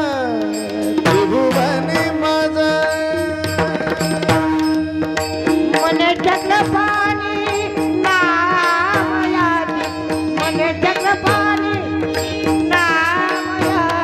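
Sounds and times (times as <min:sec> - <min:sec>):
person singing melodic run: 0:00.0 - 0:14.0
tabla drumming: 0:00.0 - 0:14.0.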